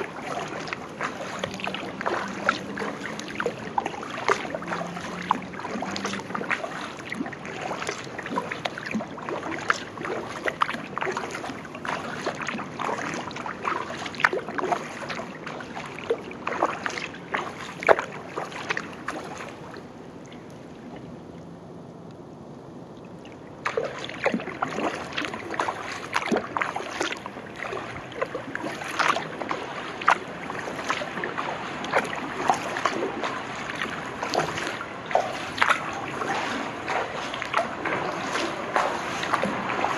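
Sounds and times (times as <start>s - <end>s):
water dripping: 0.0s - 19.2s, 23.0s - 39.9s
paddle splashing in water: 0.0s - 21.6s, 23.0s - 39.9s.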